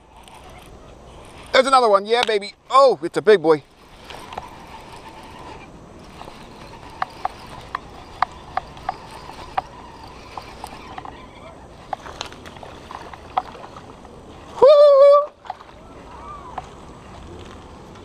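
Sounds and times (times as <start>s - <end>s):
fishing reel clicking: 0.0s - 15.8s.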